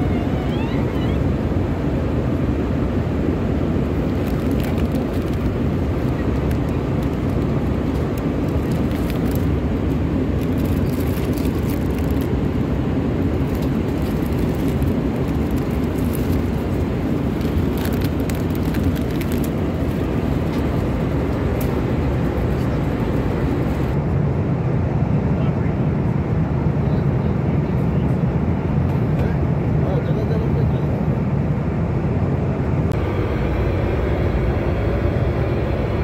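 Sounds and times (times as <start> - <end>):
jet engine rumble: 0.0 - 36.0.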